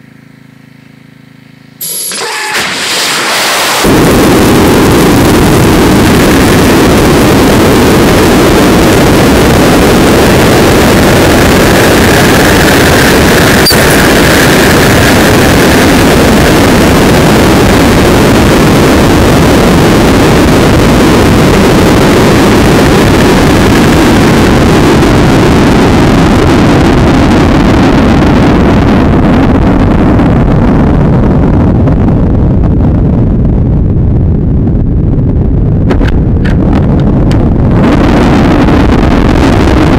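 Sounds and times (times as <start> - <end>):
air rushing over microphone: 2.2 - 39.9
low rumble: 2.6 - 39.9.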